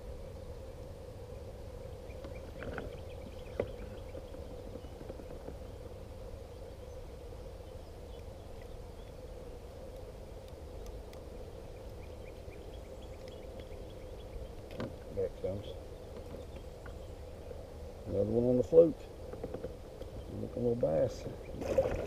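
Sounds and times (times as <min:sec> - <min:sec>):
low hum and rumble: 0:00.0 - 0:22.0.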